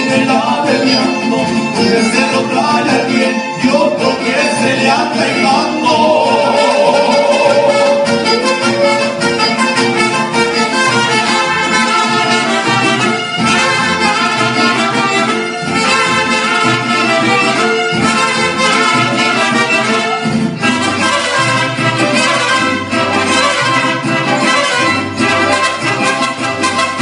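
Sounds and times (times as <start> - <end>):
mariachi band playing: 0.0 - 27.0
trumpets and violins melody: 0.0 - 27.0.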